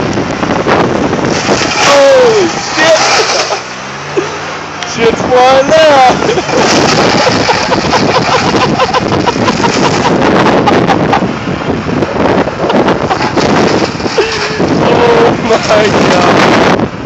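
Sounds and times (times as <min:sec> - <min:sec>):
riding lawn mower running: 0:00.0 - 0:17.0
wind buffeting microphone: 0:00.0 - 0:17.0.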